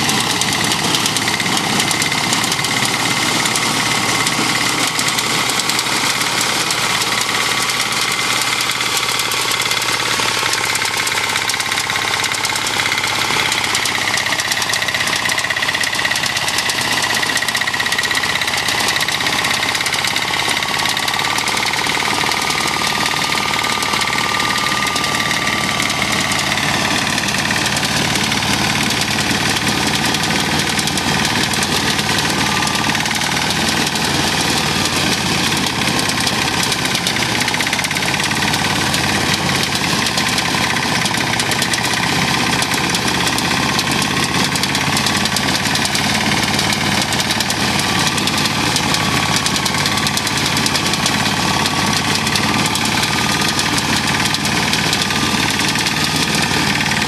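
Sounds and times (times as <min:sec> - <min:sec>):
small engine running under load: 0:00.0 - 0:57.0.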